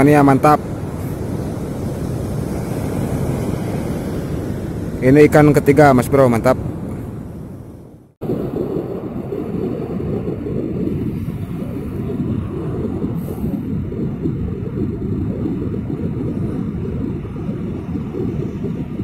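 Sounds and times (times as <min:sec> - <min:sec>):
sea surf: 0:00.0 - 0:19.0
wind at shoreline: 0:00.0 - 0:19.0.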